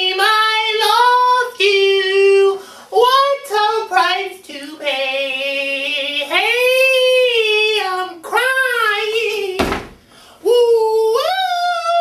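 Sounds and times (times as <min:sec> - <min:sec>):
man singing in a high voice: 0:00.0 - 0:09.7, 0:10.4 - 0:12.0.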